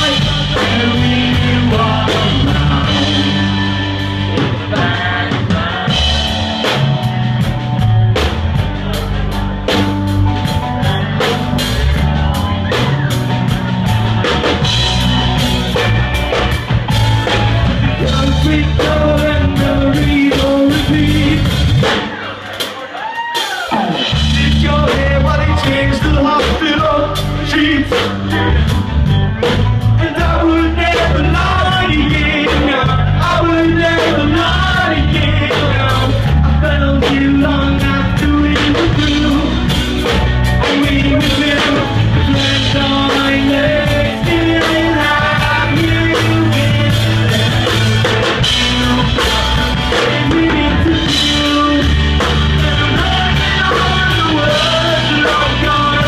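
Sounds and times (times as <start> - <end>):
singer at a microphone: 0.0 - 7.5, 8.6 - 28.8, 29.6 - 56.0
bass guitar: 0.0 - 56.0
drum kit: 0.0 - 56.0
electric guitars: 0.0 - 56.0.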